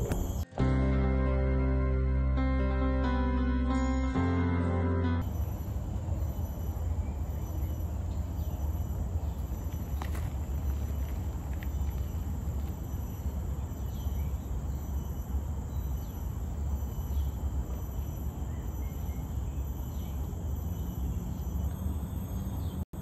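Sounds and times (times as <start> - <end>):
insects droning: 0.0 - 0.8, 5.2 - 23.0.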